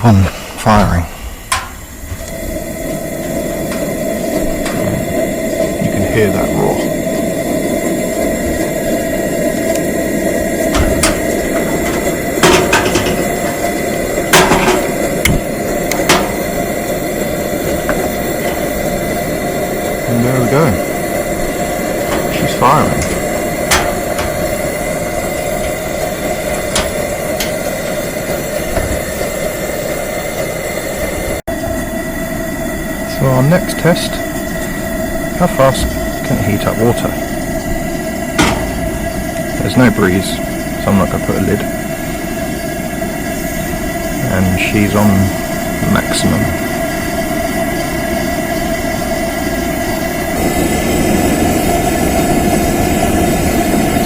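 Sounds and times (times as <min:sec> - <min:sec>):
stove burners roaring: 0:00.0 - 0:54.0.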